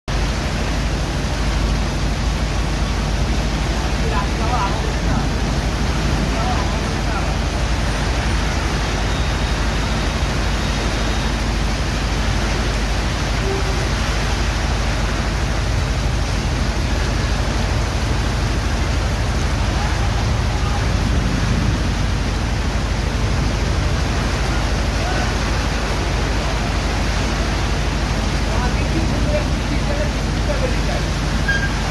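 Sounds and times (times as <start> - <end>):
heavy low rumble: 0.1 - 31.9
heavy rain downpour: 0.1 - 31.9.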